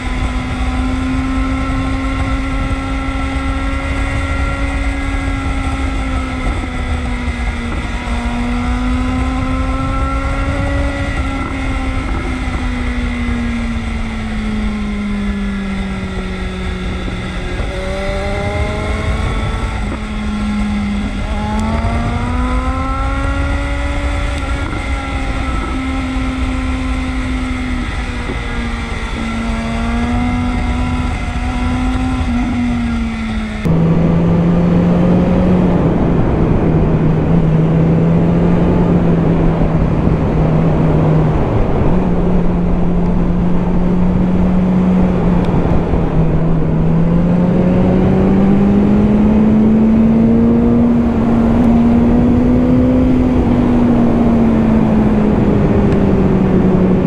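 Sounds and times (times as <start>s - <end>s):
motorcycle engine running: 0.0s - 57.0s
wind on microphone: 0.0s - 57.0s.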